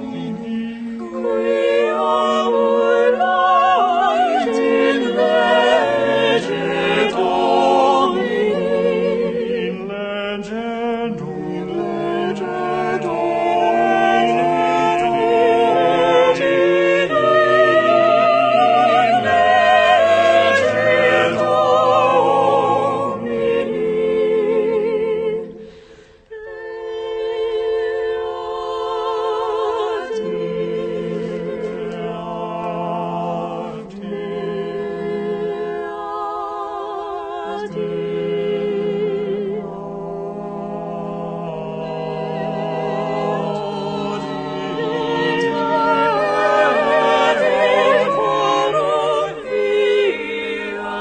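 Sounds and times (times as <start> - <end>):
voices singing with vibrato: 0.0 - 51.0.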